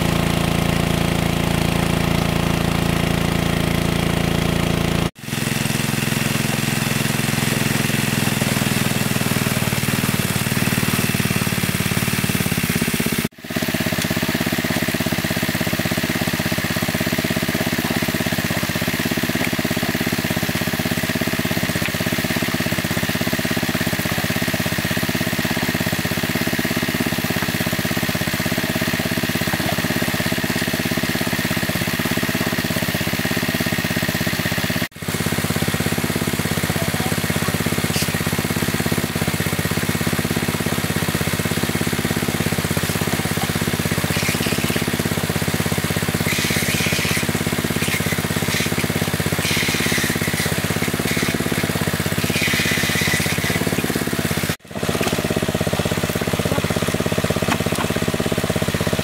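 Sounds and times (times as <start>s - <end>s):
water pump engine running: 0.0s - 59.0s.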